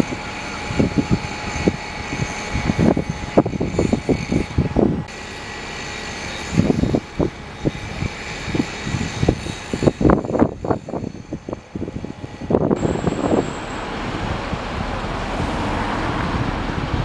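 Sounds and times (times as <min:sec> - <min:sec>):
wind buffeting microphone: 0:00.0 - 0:05.1, 0:06.3 - 0:17.0
vehicle engine droning: 0:00.0 - 0:17.0.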